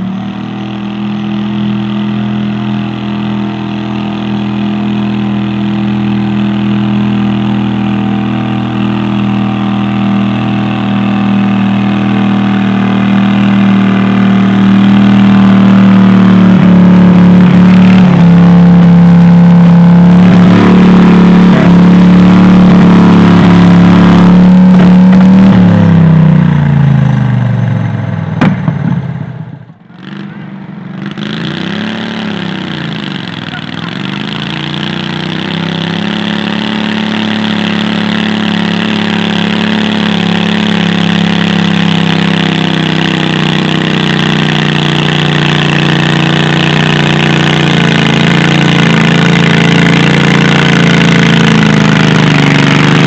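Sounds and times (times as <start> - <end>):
tractor engine at full throttle: 0.0 - 53.0.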